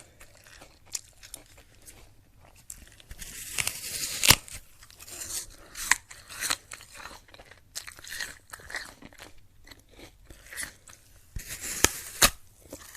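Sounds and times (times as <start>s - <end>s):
crunchy apple chewing: 0.0s - 12.9s.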